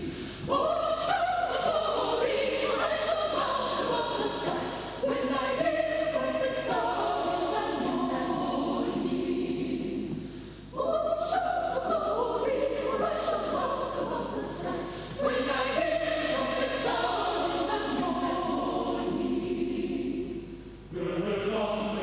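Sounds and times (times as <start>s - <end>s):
mixed choir singing a hymn: 0.0s - 22.0s.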